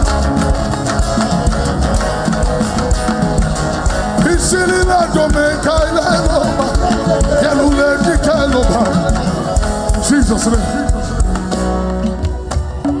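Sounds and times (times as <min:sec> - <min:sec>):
live band drums and guitar: 0:00.0 - 0:13.0.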